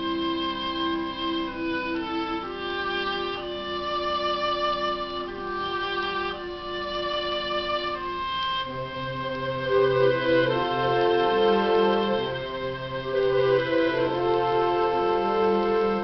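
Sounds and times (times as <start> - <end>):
wind band playing held chords: 0.0 - 16.0.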